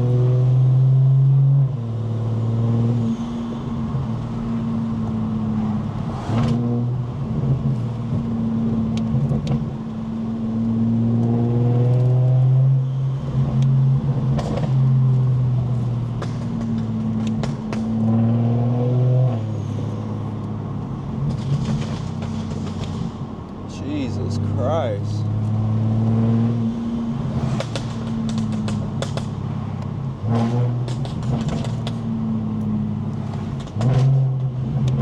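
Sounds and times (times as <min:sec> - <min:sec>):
car engine revving through gears: 0:03.8 - 0:35.0.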